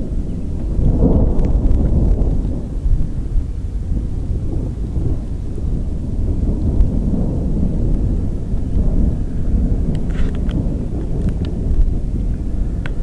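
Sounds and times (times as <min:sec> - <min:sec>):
low rumble of thunder: 0:00.0 - 0:13.0.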